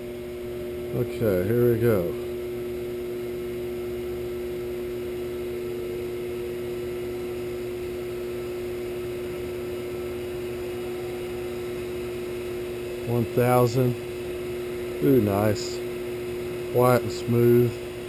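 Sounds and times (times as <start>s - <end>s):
electric motor humming: 0.0s - 18.0s.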